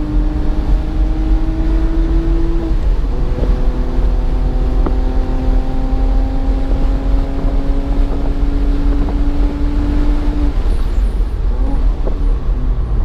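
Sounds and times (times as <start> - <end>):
car engine under throttle: 0.0 - 13.0
road and wind rumble: 0.0 - 13.0.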